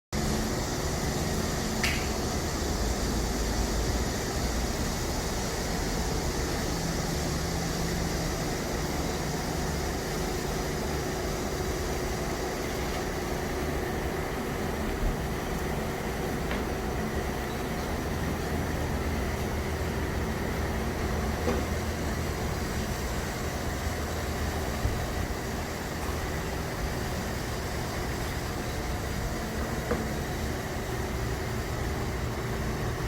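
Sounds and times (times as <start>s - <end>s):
mechanical hum with air rush: 0.1s - 33.0s.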